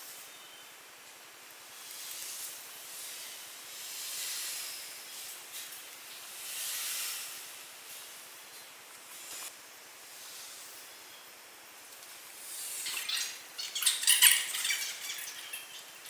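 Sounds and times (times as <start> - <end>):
hissing noise: 0.0 - 13.7.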